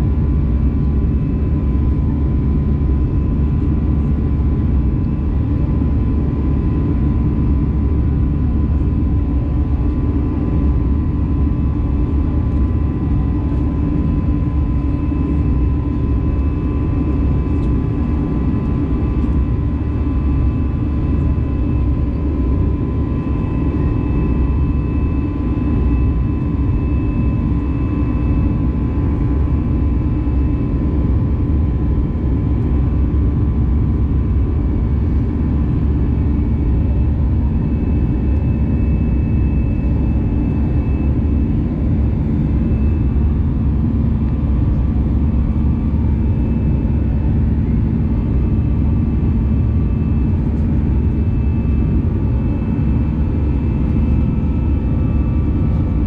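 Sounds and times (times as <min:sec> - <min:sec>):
faint steady whining tones: 0:00.0 - 0:56.0
jet engine cabin drone: 0:00.0 - 0:56.0.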